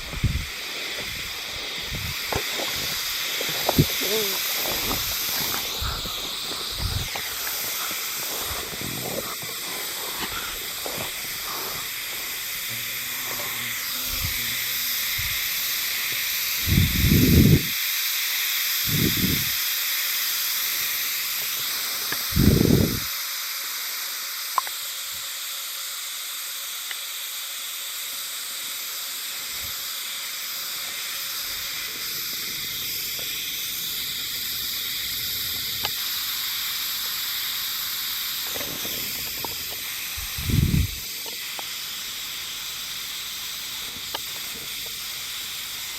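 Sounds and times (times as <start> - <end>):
cicadas singing shrill drone: 0.0 - 45.9.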